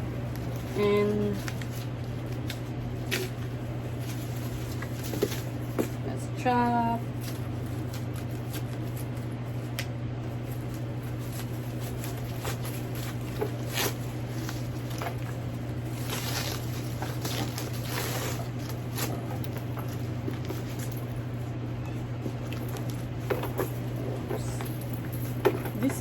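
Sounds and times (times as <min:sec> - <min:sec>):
steady low hum: 0:00.0 - 0:26.0
handbag rustling and clicking: 0:00.3 - 0:06.1, 0:10.2 - 0:26.0.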